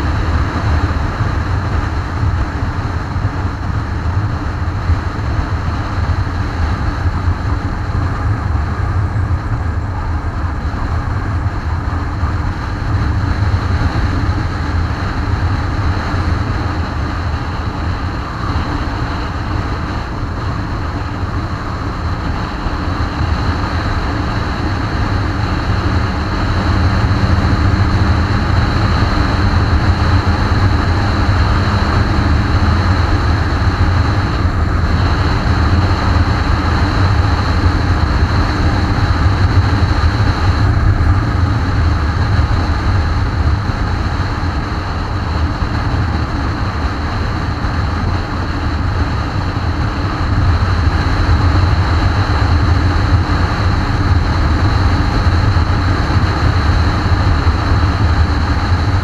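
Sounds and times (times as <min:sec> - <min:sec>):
motorcycle engine drone: 0:00.0 - 0:59.0
wind rush: 0:00.0 - 0:59.0.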